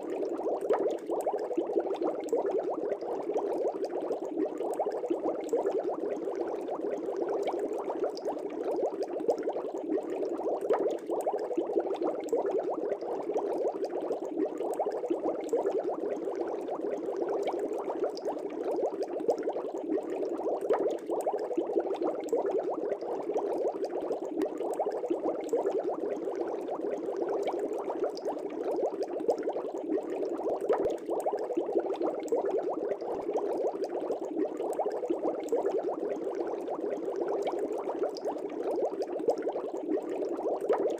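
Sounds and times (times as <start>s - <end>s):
aquarium air bubbling: 0.0s - 40.9s.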